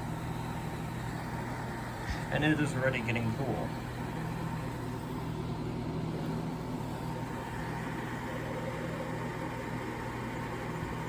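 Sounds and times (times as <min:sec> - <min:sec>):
compressor hum: 0:00.0 - 0:11.0.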